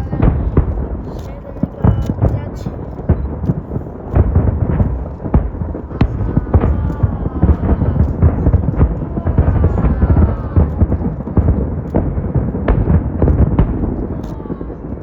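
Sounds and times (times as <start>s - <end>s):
deep rumble: 0.0s - 15.0s
fireworks bursting: 0.0s - 15.0s.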